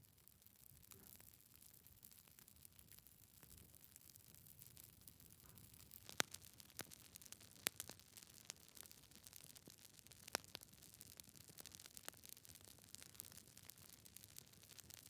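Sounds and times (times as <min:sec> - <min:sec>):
faint fire hiss: 0:00.0 - 0:15.0
wood fire crackling and popping: 0:00.0 - 0:15.0.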